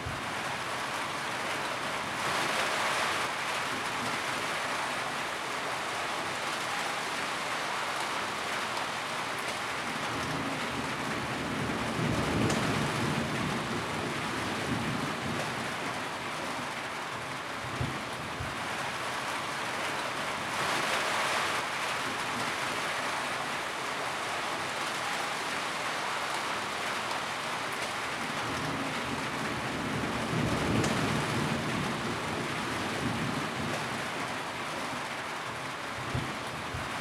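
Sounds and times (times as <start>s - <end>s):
rain drumming on a tin roof: 0.0s - 37.0s.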